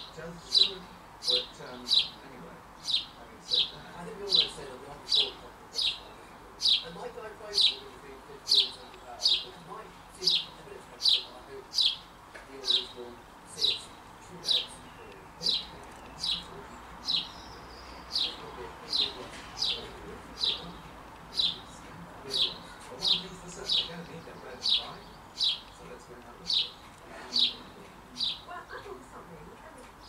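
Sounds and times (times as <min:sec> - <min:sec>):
songbird chirping: 0:00.0 - 0:30.0.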